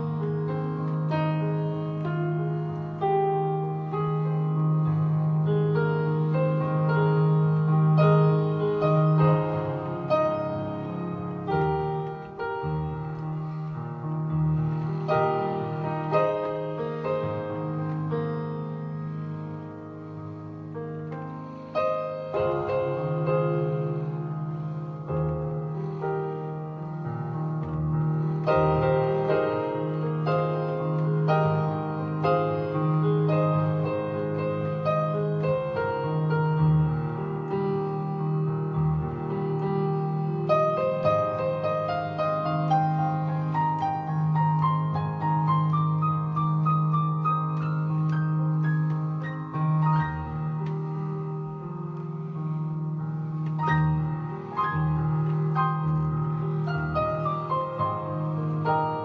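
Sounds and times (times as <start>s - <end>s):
electronic keyboard music: 0.0s - 59.0s.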